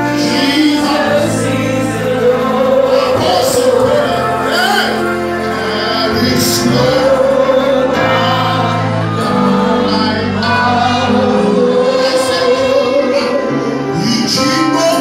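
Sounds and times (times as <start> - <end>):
bass line: 0.0 - 15.0
gospel praise music with singing: 0.0 - 15.0.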